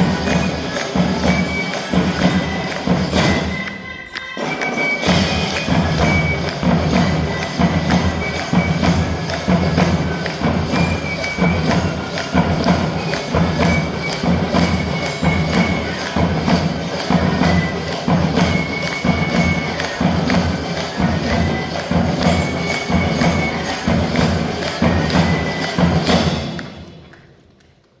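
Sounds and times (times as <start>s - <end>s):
drum band playing: 0.0s - 27.0s.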